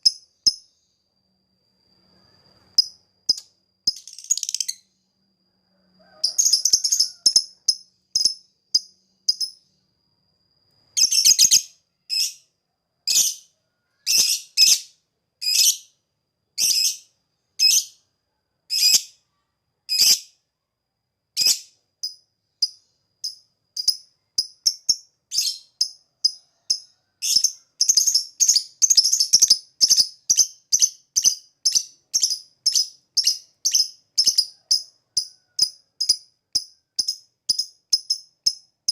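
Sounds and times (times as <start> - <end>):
lovebird chirping: 0.0 - 1.0, 2.0 - 5.1, 6.1 - 9.8, 10.8 - 12.5, 13.1 - 15.9, 16.6 - 18.0, 21.4 - 38.9.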